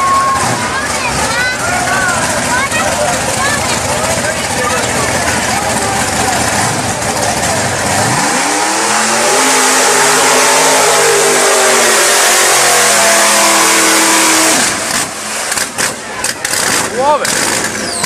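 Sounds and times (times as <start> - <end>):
mud and tyres spraying: 0.0 - 18.0
truck engine revving hard: 0.0 - 18.0.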